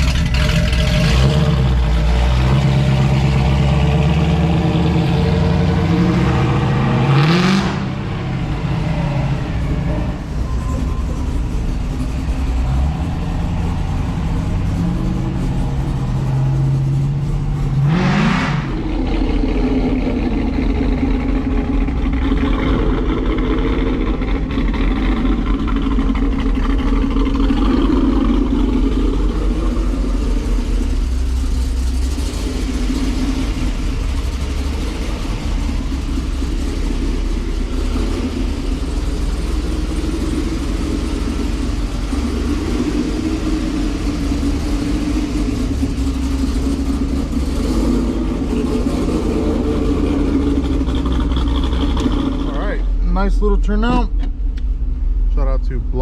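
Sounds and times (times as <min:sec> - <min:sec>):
car engine running: 0:00.0 - 0:56.0
engine rev: 0:00.0 - 0:56.0.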